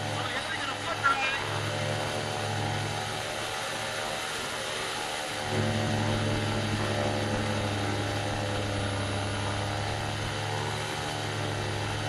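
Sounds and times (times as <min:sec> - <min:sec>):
paramotor engine droning: 0:00.0 - 0:12.0.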